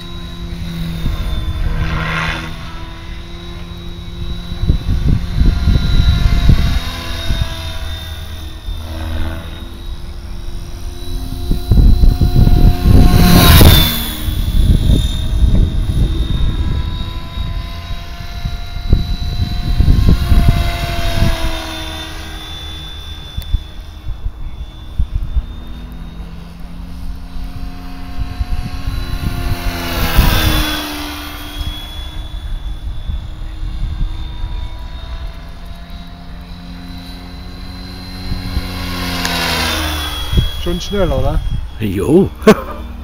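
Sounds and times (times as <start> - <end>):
rc helicopter whine: 0.0 - 43.0.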